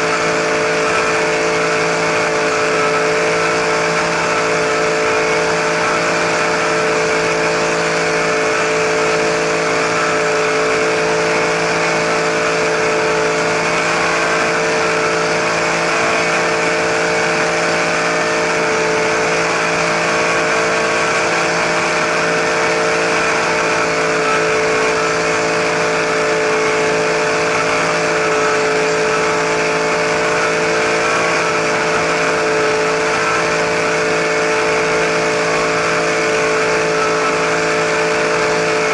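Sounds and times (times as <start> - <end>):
model helicopter motor whine: 0.0 - 38.9.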